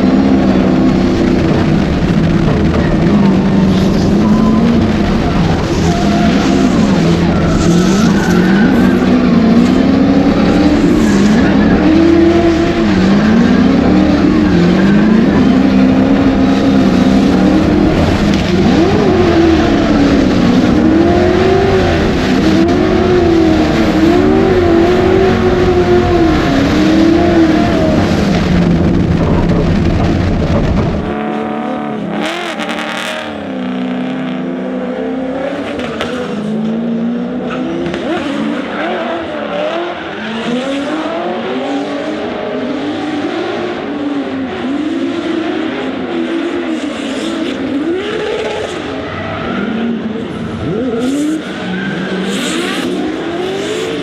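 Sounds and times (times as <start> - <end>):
car engine revving hard: 0.0 - 54.0.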